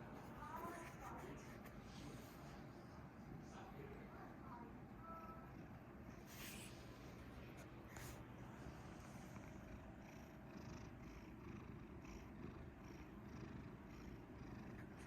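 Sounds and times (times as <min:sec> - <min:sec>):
cat purring: 0:00.4 - 0:15.0.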